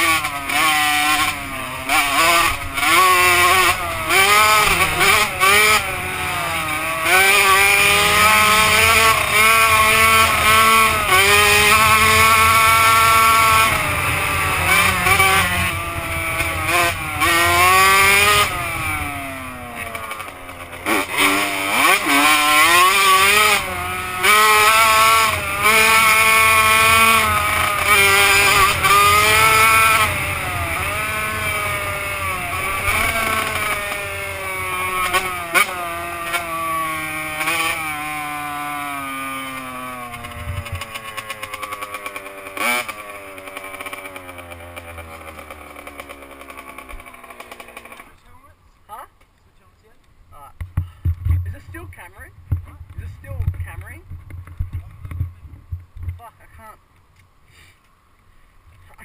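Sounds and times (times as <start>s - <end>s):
motocross bike engine revving: 0.0s - 49.2s, 50.3s - 56.8s.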